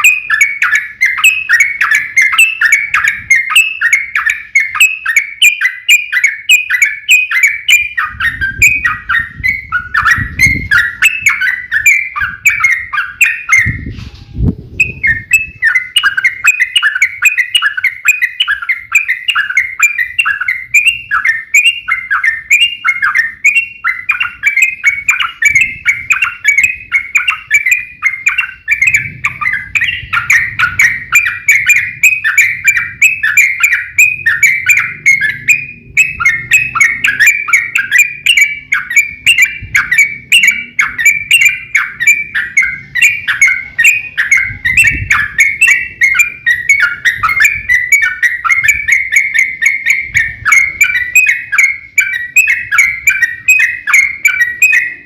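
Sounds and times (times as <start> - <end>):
bulbuls singing chattering phrases: 0.0 - 13.9, 14.7 - 55.0.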